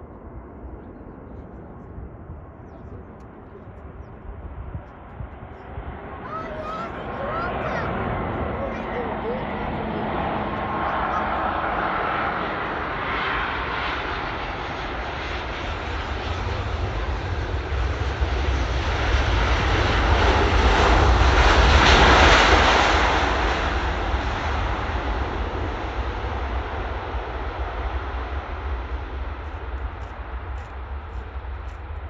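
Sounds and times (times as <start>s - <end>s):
jet airliner passing: 0.0s - 32.0s.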